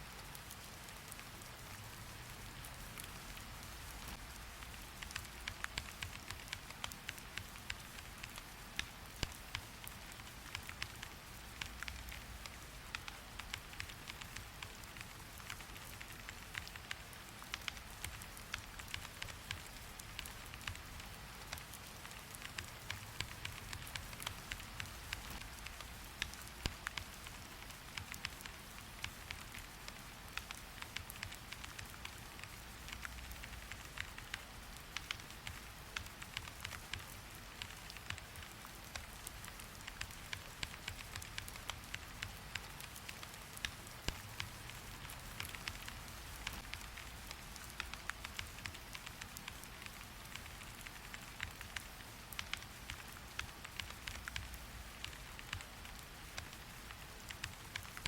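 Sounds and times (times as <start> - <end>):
rain hiss: 0.0 - 58.0
sharp ticks and clicks: 2.5 - 58.0.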